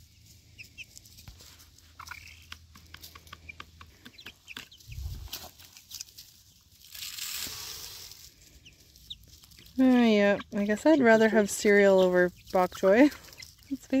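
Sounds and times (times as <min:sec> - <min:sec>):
young chickens clucking and peeping: 0:00.0 - 0:06.6, 0:08.4 - 0:14.0
rustling: 0:00.2 - 0:14.0.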